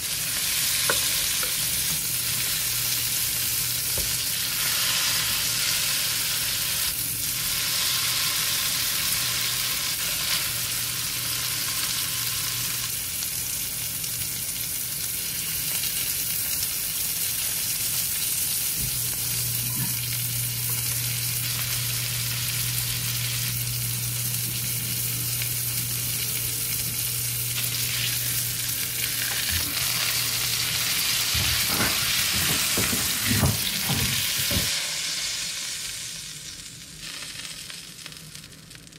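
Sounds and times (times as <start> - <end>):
steak sizzling in a skillet: 0.0 - 38.9.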